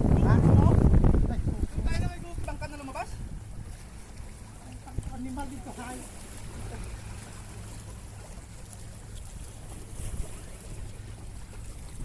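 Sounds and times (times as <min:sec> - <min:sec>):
boat engine low rumble: 0:00.0 - 0:12.0
wind and water hiss: 0:00.0 - 0:12.0.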